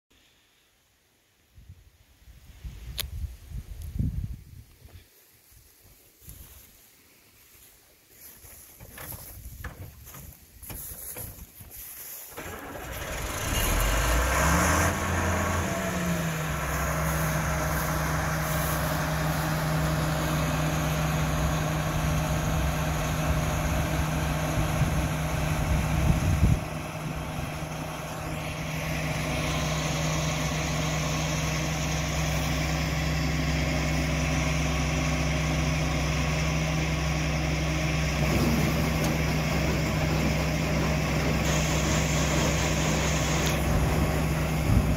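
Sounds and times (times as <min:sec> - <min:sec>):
diesel engine starting and running: 0:08.2 - 0:44.9.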